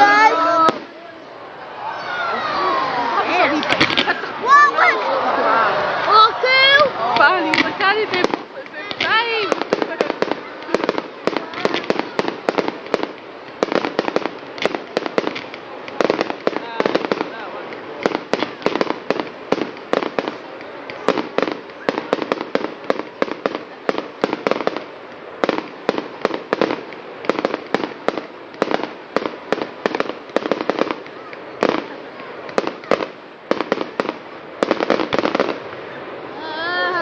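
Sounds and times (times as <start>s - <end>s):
fireworks bangs and cracks: 0.0s - 1.1s, 2.7s - 37.0s.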